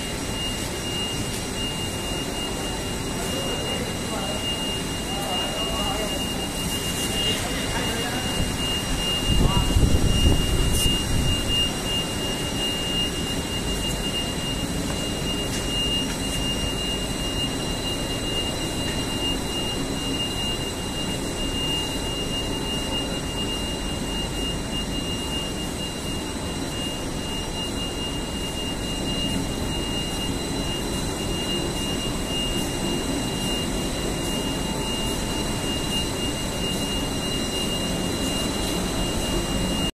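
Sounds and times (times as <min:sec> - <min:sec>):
high-pitched machine whine: 0:00.0 - 0:39.9
industrial rollers and motors running: 0:00.0 - 0:39.9.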